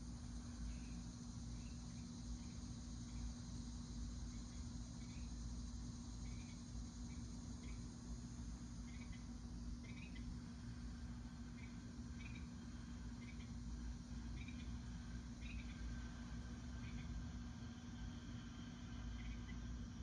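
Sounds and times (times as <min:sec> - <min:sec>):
insect chirping: 0:00.0 - 0:20.0
low electrical hum: 0:00.0 - 0:20.0
steady hiss: 0:00.0 - 0:20.0.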